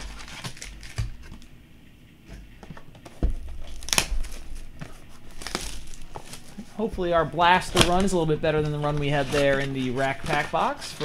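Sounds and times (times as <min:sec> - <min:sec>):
cellophane crinkling and tearing: 0:00.0 - 0:01.5, 0:03.4 - 0:11.0.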